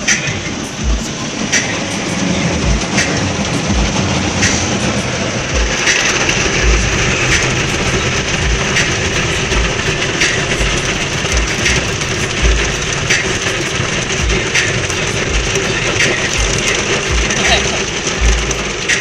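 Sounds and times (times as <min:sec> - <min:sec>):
car wash spray and scrubbing: 0:00.0 - 0:19.0.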